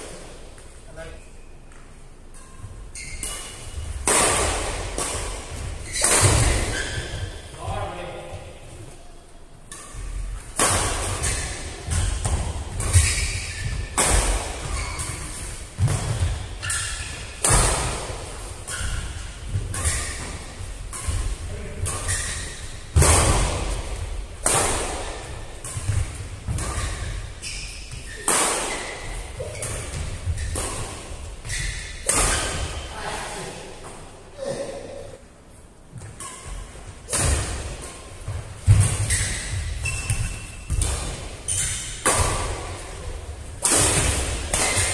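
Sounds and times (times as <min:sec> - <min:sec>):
rackets striking shuttlecock: 0:02.3 - 0:07.4, 0:09.7 - 0:32.8, 0:37.1 - 0:44.9.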